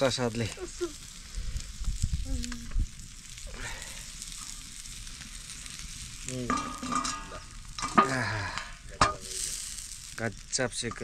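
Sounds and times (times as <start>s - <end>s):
meat sizzling on a hot stone: 0.0s - 11.0s.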